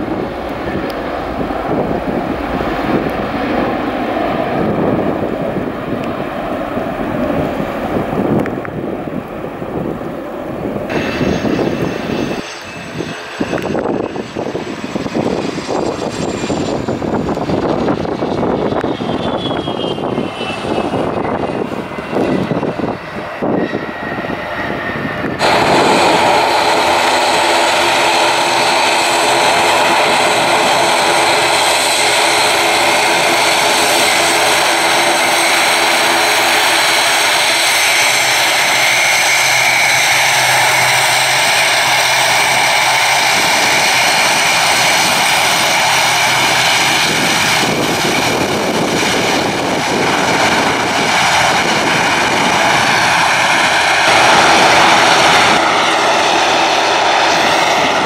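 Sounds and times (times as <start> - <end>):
jet engine whine falling in pitch: 0.0 - 58.0
turboprop engines droning: 0.0 - 58.0.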